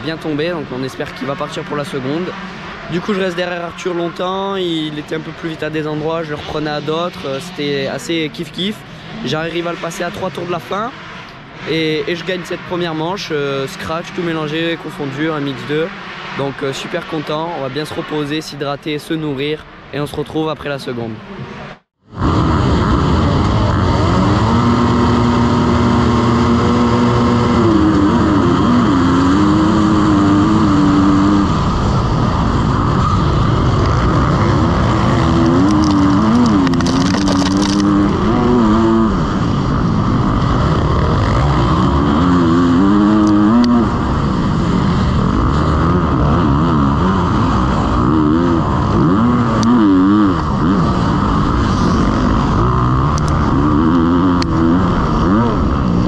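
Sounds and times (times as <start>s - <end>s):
motocross bike engine revving: 0.0s - 18.3s, 21.4s - 56.0s.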